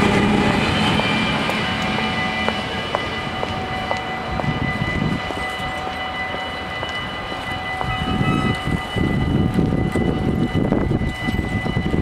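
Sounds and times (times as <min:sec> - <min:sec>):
level crossing bells ringing: 0:00.0 - 0:12.0.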